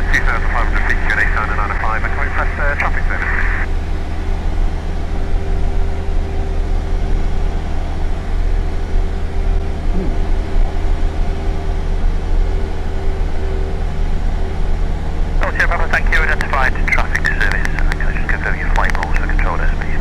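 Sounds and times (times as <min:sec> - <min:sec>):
light aircraft engine drone: 0:00.0 - 0:20.0.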